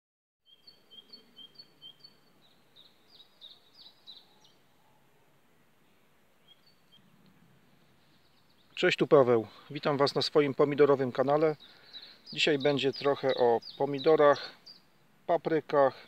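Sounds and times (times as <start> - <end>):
songbird chirping: 0.4 - 16.0.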